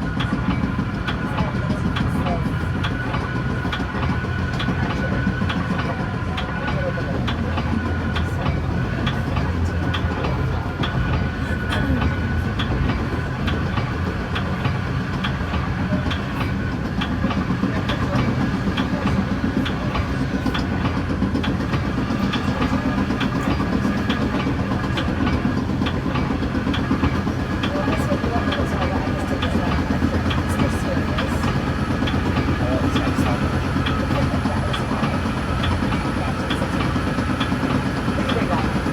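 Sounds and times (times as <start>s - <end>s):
train rumbling at speed: 0.0s - 38.9s
wheels clicking over rails: 0.0s - 38.9s.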